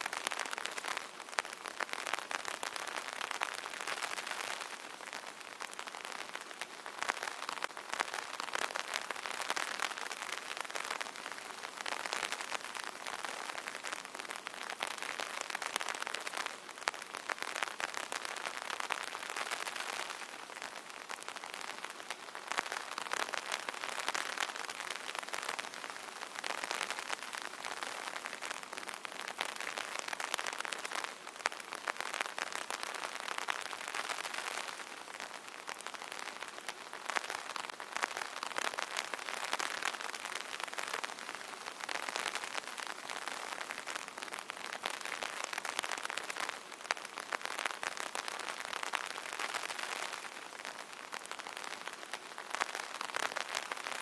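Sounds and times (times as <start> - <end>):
rain pattering on umbrella: 0.0 - 54.0.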